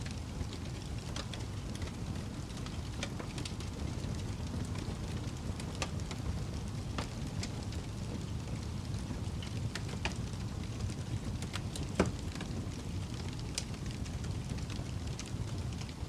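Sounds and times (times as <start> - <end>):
fire crackling and popping: 0.0 - 16.0
low rumble of fire flames: 0.0 - 16.0.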